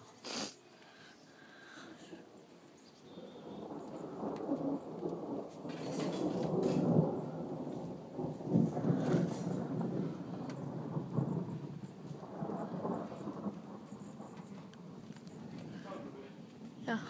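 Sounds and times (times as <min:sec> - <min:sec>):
thunder rumbling: 0:01.8 - 0:17.0.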